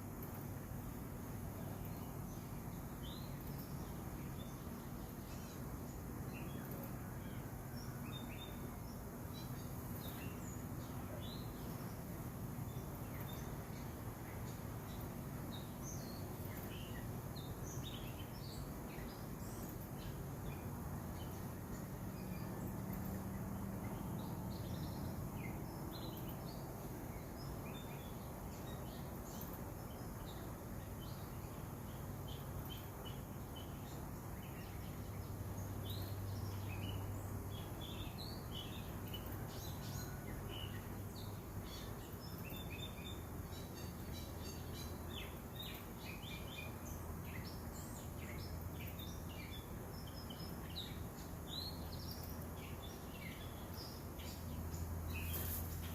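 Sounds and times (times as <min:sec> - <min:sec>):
small birds chirping: 0:00.0 - 0:55.9
steady low hum: 0:00.0 - 0:55.9.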